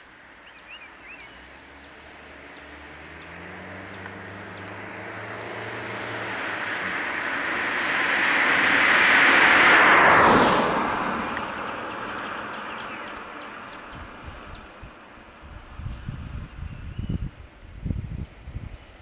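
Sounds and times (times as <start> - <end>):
vehicle passing by: 1.0 - 18.9.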